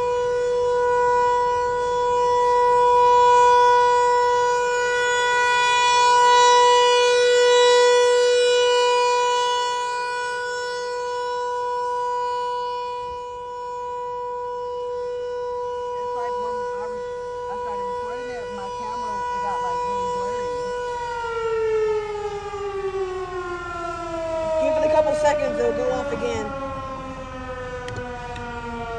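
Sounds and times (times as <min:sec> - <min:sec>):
rotating siren tone: 0:00.0 - 0:28.9.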